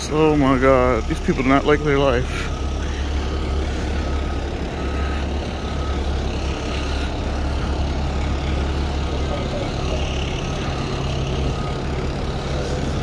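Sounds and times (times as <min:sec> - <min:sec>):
back-up alarm beeping: 0:00.0 - 0:13.0
diesel engine running: 0:00.0 - 0:13.0.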